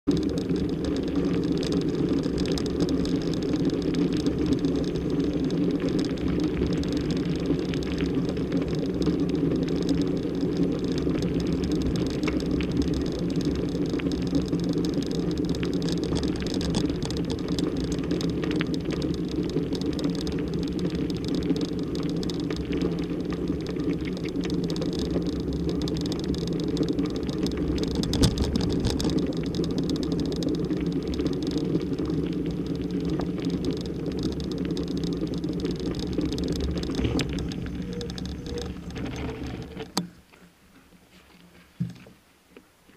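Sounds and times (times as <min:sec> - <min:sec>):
small clicks and rattles: 0:00.0 - 0:40.5
tyres rumbling on gravel: 0:00.1 - 0:40.3.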